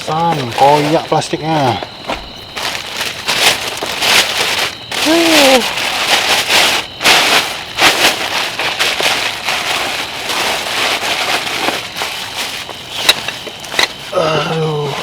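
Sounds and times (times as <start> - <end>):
plastic crinkling and rustling: 0.0 - 14.2.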